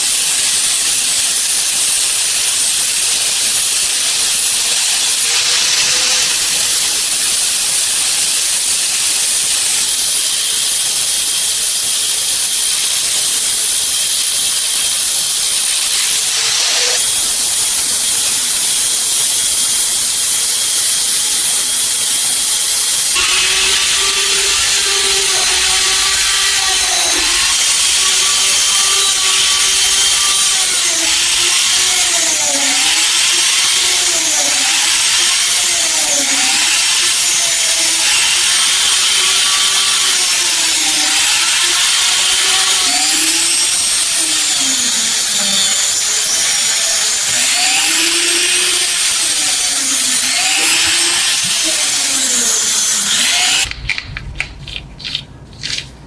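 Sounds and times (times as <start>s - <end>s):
electric power tool motor: 0.0s - 55.8s.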